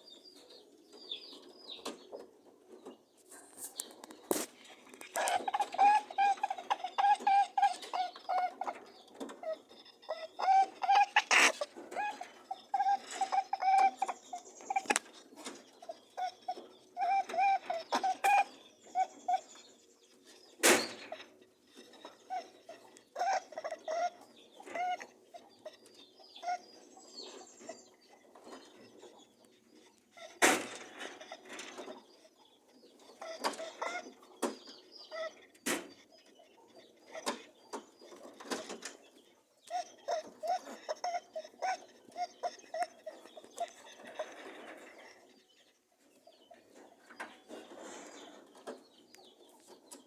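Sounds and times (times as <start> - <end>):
rabbits honking and grunting: 0.0 - 50.0.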